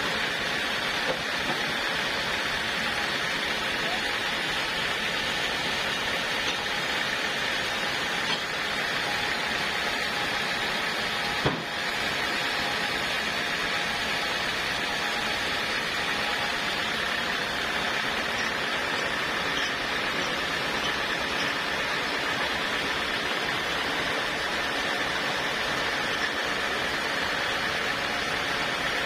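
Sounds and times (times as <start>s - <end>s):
sawmill running: 0.0s - 29.0s.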